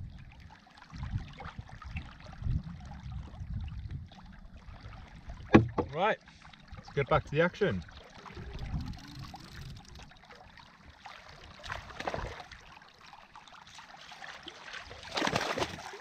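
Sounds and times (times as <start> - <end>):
water lapping around kayak: 0.0 - 16.0
water surges: 0.0 - 16.0.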